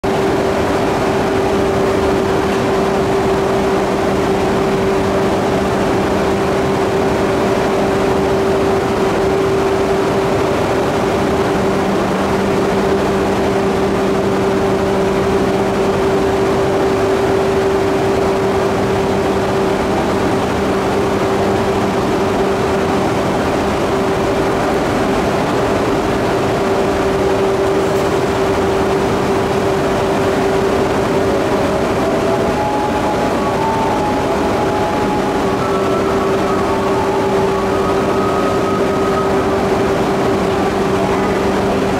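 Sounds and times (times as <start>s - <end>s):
lower hum: 0.0s - 41.9s
train equipment humming: 0.0s - 41.9s.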